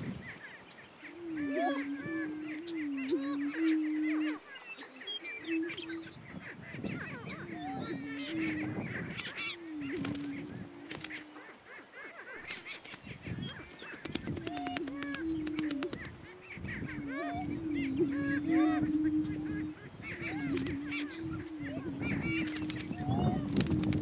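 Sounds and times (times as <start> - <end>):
birds cackling: 0.0 - 24.0.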